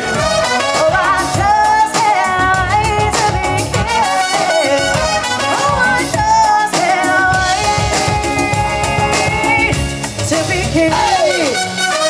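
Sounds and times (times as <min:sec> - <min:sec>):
live band playing latin music: 0:00.0 - 0:12.0.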